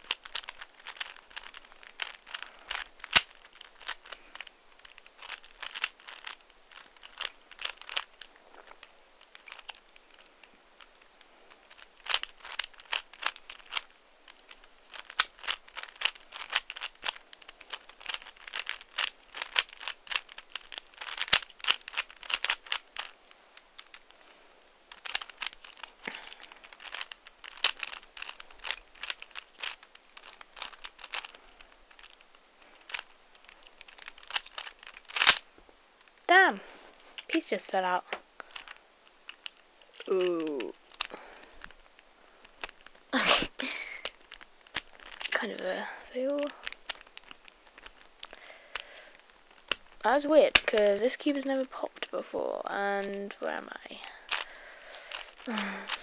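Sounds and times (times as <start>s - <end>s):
puzzle cube layers clicking: 0.0s - 24.2s, 24.9s - 36.6s, 37.2s - 56.0s.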